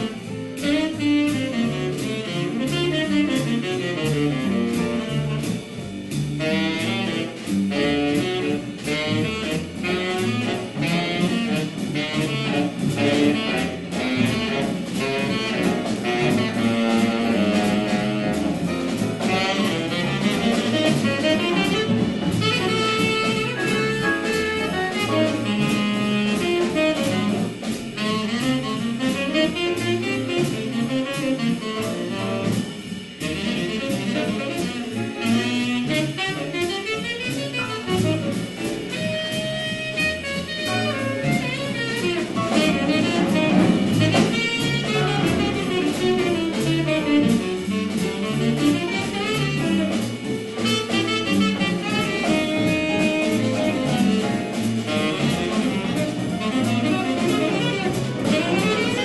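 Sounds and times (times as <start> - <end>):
drums on cymbals: 0.0 - 59.0
plucked upright bass: 0.0 - 59.0
saxophone melody: 0.0 - 59.0.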